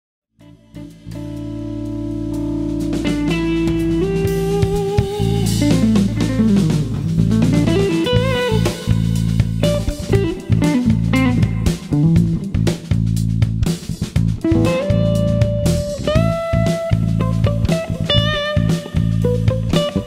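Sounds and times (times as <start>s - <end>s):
drums: 0.4s - 20.0s
electric guitar lead line: 0.4s - 20.0s
band jamming: 0.6s - 20.0s.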